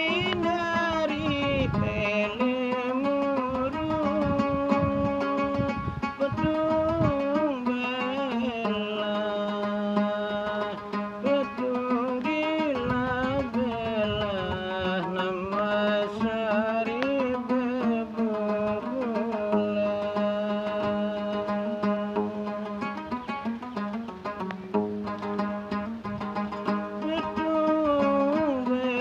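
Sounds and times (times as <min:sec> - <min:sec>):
man singing slow melody: 0:00.0 - 0:23.2, 0:26.7 - 0:29.0
plucked lute: 0:00.0 - 0:29.0.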